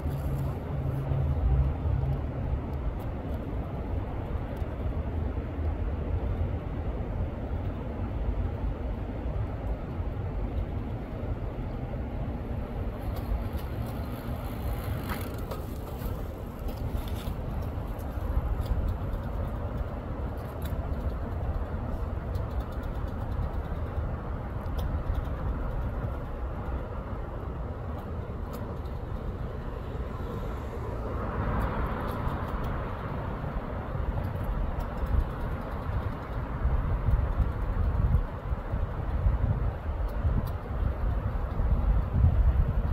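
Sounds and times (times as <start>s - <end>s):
low outdoor rumble: 0.0s - 42.9s.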